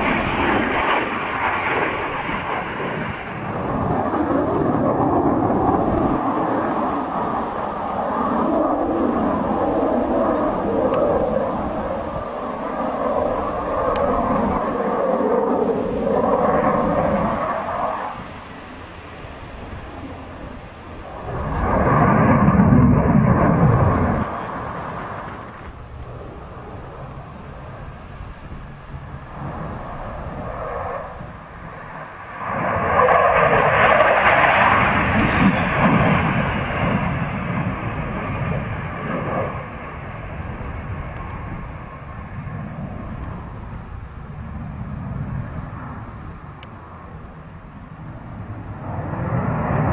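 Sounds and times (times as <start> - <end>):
aircraft engine rumble: 0.0 - 49.9.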